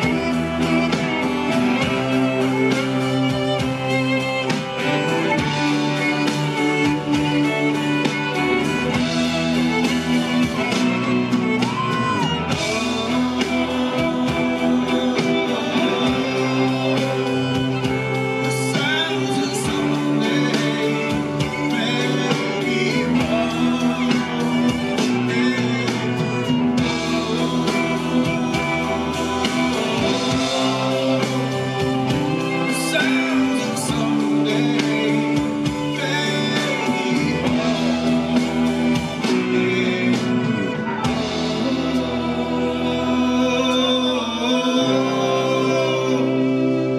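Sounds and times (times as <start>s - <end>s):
bass guitar: 0.0s - 46.9s
drums: 0.0s - 46.9s
electric guitar: 0.0s - 46.9s
man singing: 0.0s - 46.9s.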